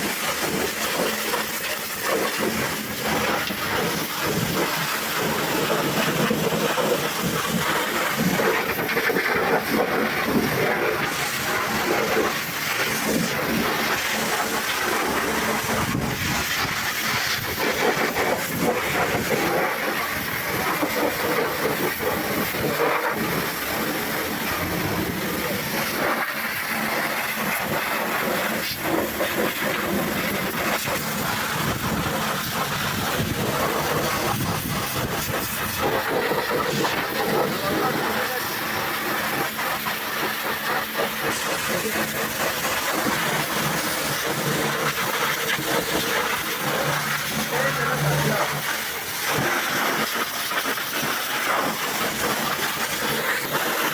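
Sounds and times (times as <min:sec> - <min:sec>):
pressure washer water spray hissing: 0:00.0 - 0:53.9.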